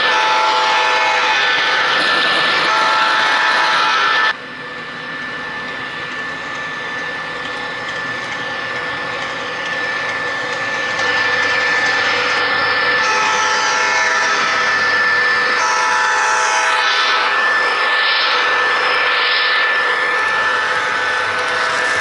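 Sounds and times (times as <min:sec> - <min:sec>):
model locomotive whine: 0:00.0 - 0:22.0.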